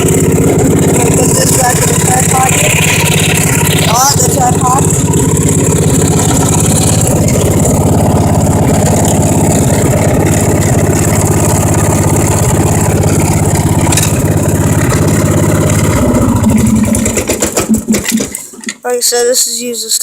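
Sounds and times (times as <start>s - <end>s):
garden tractor engine idling: 0.0s - 19.4s.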